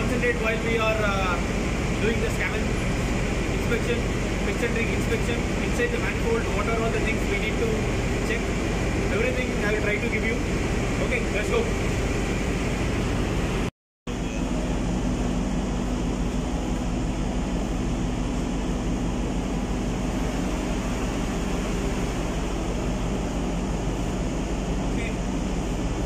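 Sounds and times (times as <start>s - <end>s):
engine-room machinery drone: 0.0s - 26.0s.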